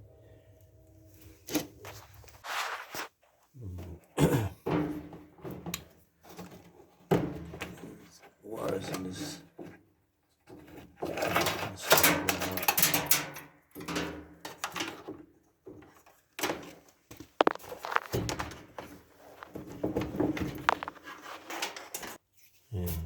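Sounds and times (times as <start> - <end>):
scraping and rattling of dryer parts: 0.0 - 22.4.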